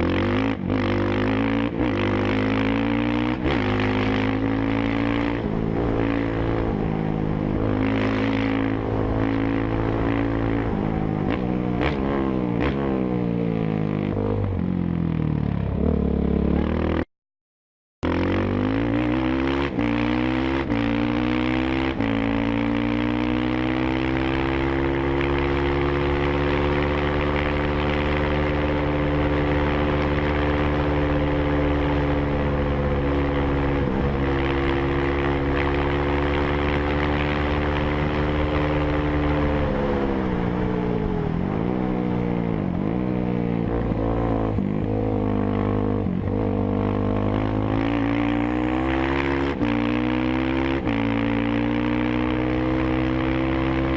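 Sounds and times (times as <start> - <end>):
motorcycle engine accelerating: 0.0 - 17.1, 18.0 - 53.9.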